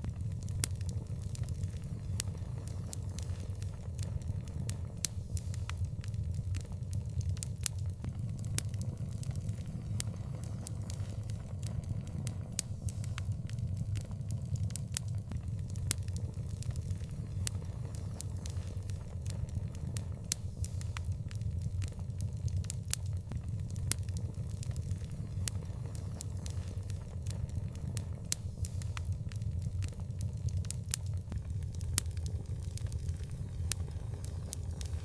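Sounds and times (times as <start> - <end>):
open fire crackling: 0.0 - 35.0.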